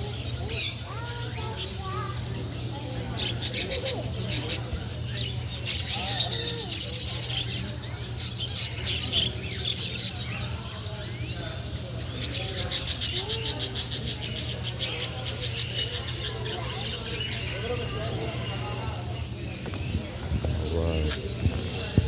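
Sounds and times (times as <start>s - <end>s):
caged birds chirping: 0.0s - 22.0s.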